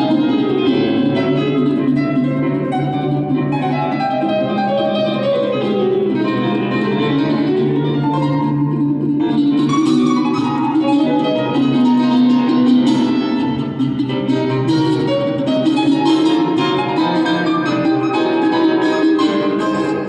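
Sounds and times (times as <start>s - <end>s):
plucked mandolin notes: 0.0s - 20.0s.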